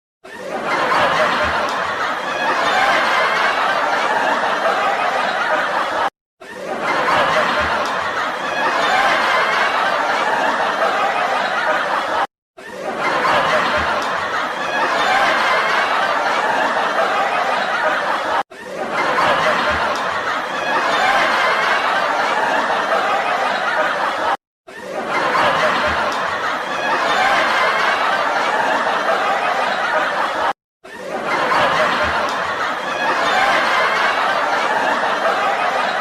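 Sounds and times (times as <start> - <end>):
crowd laughing: 0.2 - 36.0.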